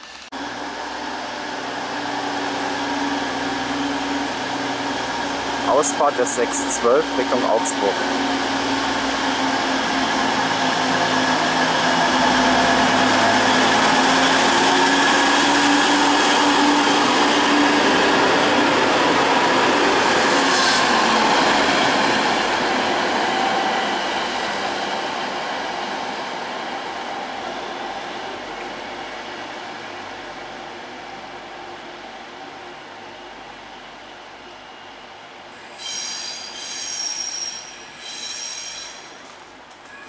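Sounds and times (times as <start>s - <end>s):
diesel train departing: 0.0s - 40.0s.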